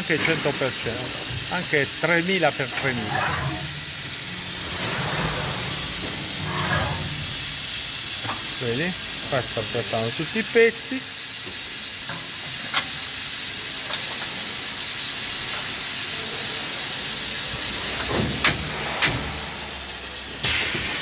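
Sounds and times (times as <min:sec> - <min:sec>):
machining centre hiss: 0:00.0 - 0:21.0.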